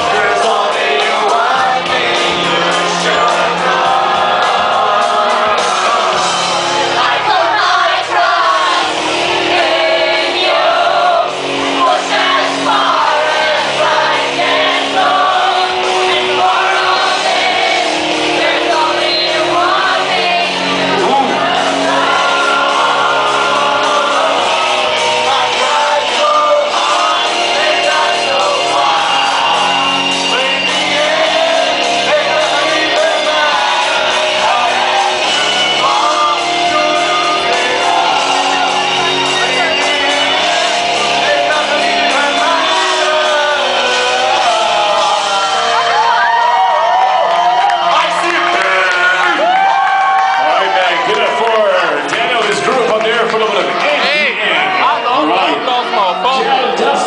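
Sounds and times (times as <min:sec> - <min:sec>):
loud rock song: 0:00.0 - 0:57.0
men singing and shouting along: 0:00.0 - 0:57.0.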